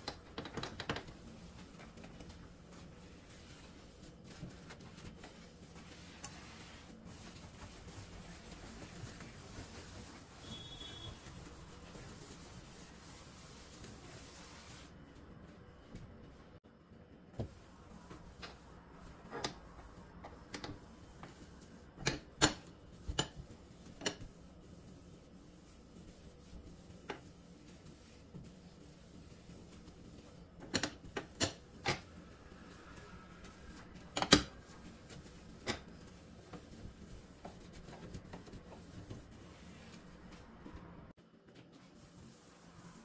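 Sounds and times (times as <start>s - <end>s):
cloth rubbing on metal hob: 0.0s - 15.0s, 17.4s - 40.9s, 41.5s - 43.0s.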